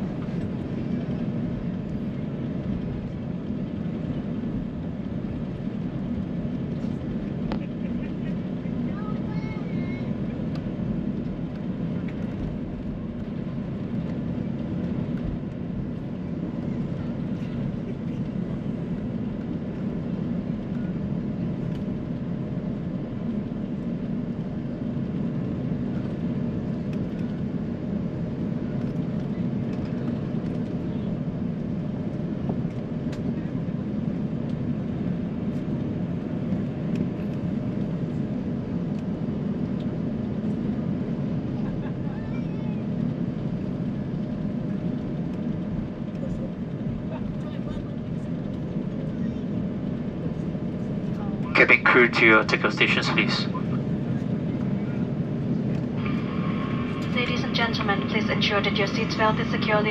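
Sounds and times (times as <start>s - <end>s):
low rumble of idling jet engines: 0.0s - 59.9s.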